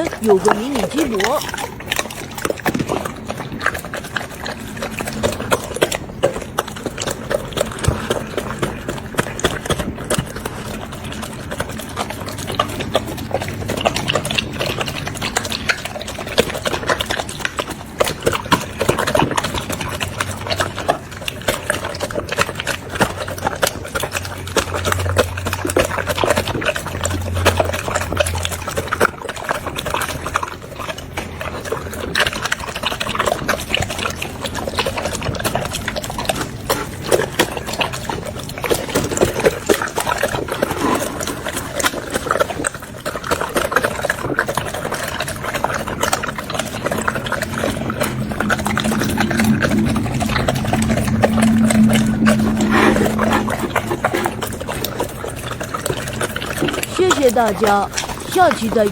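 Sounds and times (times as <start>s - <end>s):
dog crunching on a chew: 0.0s - 58.9s.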